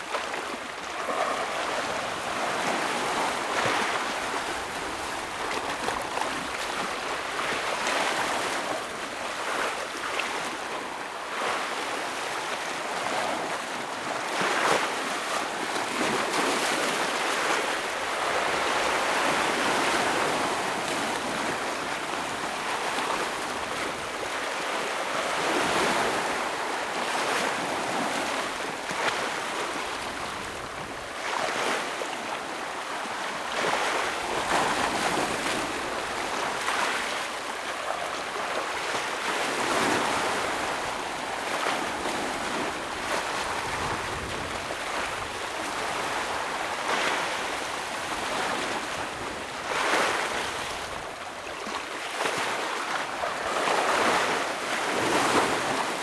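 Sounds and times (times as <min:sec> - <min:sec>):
surf washing on rocky shore: 0:00.0 - 0:56.0.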